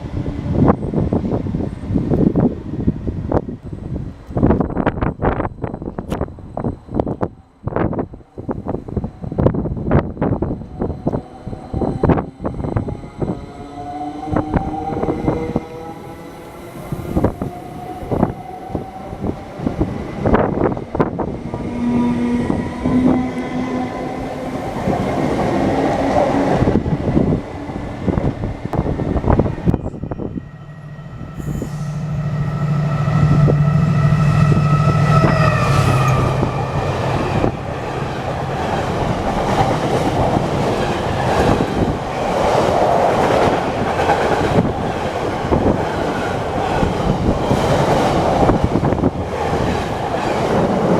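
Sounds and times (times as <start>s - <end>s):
train low hum with whine: 0.0s - 50.9s
train rumbling: 0.0s - 50.9s.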